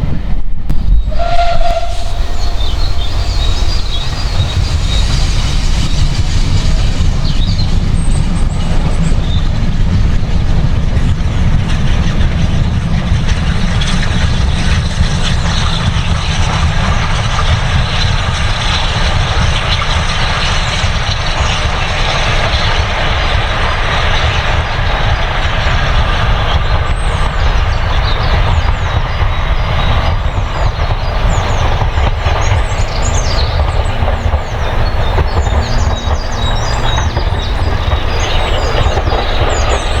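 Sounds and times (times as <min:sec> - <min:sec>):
rail and wheel noise: 0:00.0 - 0:40.0
train rumbling past: 0:00.0 - 0:40.0.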